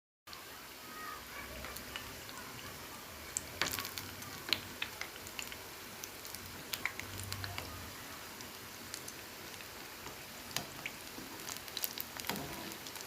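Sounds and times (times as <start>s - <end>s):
food deep-frying in hot oil: 0.3s - 13.0s.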